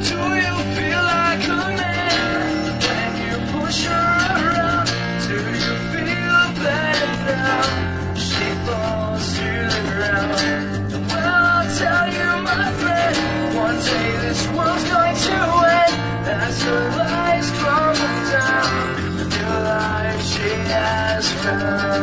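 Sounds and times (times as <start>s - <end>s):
live rock band: 0.0s - 22.0s
low bass: 0.0s - 22.0s
strummed guitars: 0.0s - 22.0s.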